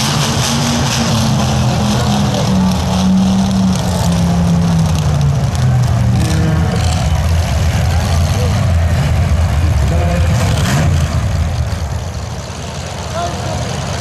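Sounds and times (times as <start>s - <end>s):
loud car engines running: 0.0s - 14.0s.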